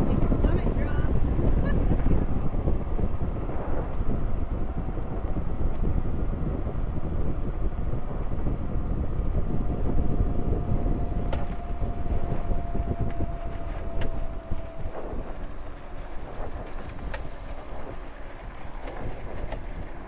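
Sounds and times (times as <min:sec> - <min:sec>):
aircraft engine and propeller: 0:00.0 - 0:20.0
wind buffeting microphone: 0:00.0 - 0:20.0.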